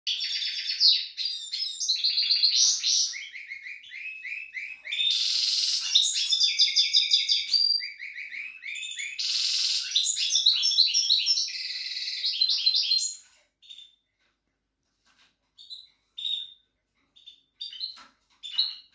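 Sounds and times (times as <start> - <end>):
finch song: 0.1 - 14.3, 15.0 - 18.9.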